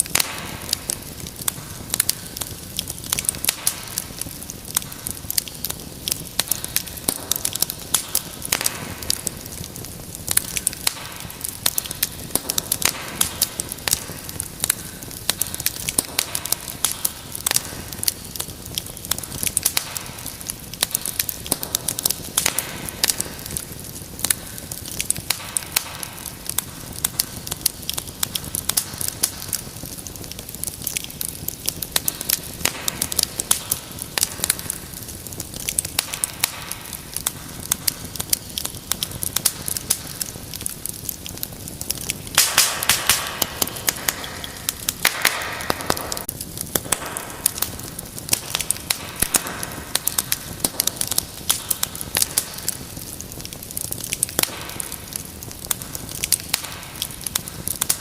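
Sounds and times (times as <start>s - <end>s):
hissing flare-up: 0.0s - 58.0s
wood fire crackling: 0.0s - 58.0s.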